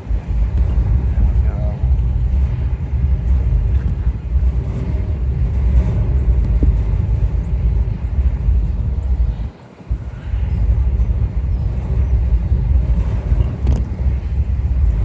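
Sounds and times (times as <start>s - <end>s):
propane torch roaring: 0.0s - 15.0s.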